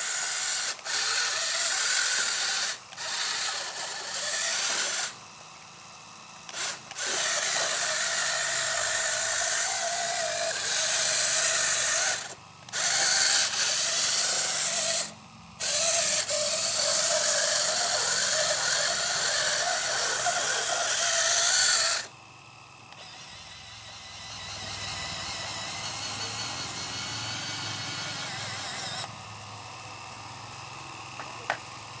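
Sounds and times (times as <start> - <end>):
small electric motors whirring: 0.0 - 32.0.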